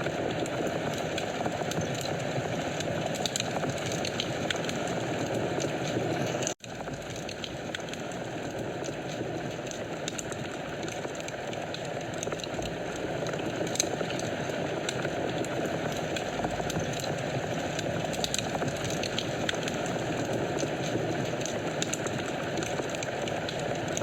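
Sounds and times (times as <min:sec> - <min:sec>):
fire crackling and popping: 0:00.0 - 0:24.0
wood fire burning: 0:00.0 - 0:24.0.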